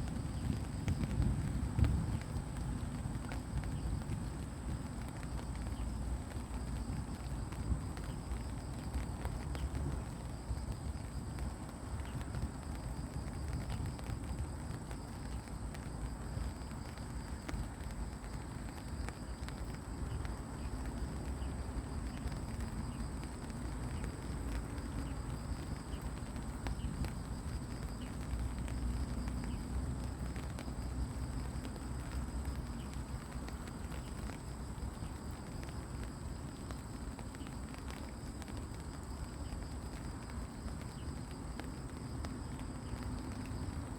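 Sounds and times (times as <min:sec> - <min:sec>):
rain pattering on leaves: 0:00.0 - 0:43.9.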